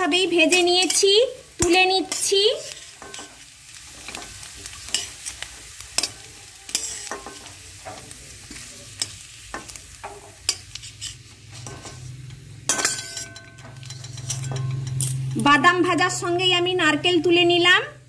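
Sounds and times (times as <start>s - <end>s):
oil sizzling faintly: 0.0s - 17.3s
metal spatula scraping metal pan: 0.4s - 16.4s.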